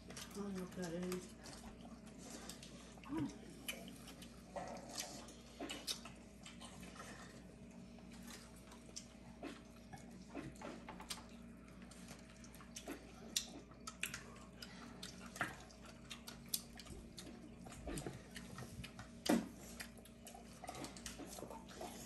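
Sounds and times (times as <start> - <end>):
faint steady hum: 0.0 - 22.0
people eating: 0.0 - 22.0.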